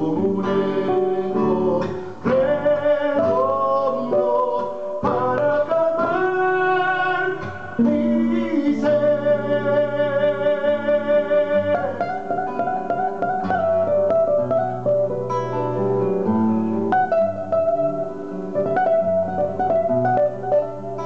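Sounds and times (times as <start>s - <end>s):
two acoustic guitars duet: 0.0s - 21.0s.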